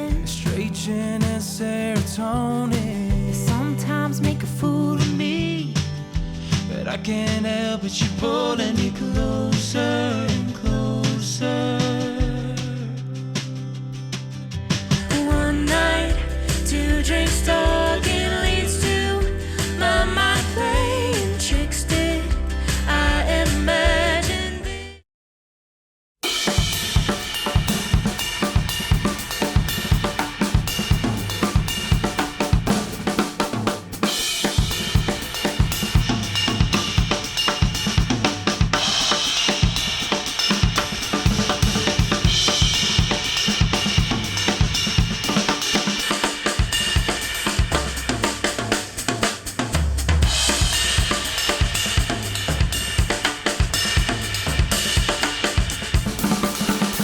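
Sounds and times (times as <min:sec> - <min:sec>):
instrumental music with drums: 0:00.0 - 0:24.4, 0:26.2 - 0:57.0.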